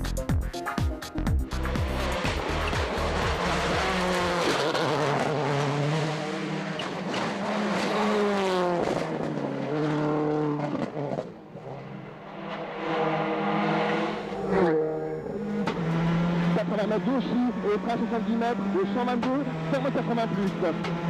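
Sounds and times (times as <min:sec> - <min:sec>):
rally car engine revving: 0:01.4 - 0:21.0.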